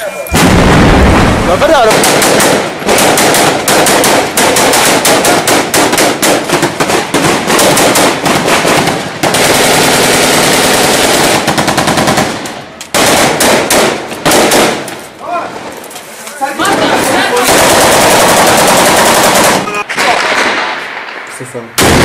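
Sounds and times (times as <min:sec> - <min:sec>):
automatic gunfire: 0:00.3 - 0:14.9, 0:16.6 - 0:20.9, 0:21.8 - 0:22.0.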